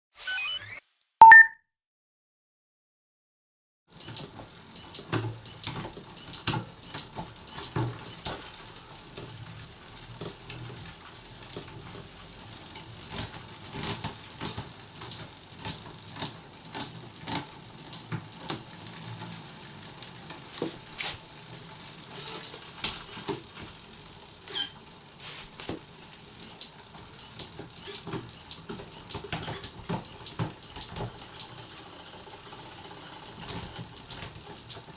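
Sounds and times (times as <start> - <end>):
bicycle clicks and creaks: 3.9 - 20.7, 21.6 - 34.9.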